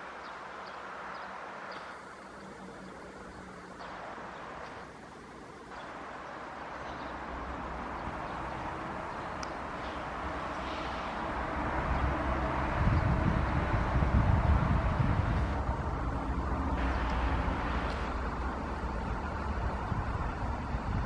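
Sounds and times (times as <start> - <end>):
diesel locomotive engine rumble: 1.9 - 21.0.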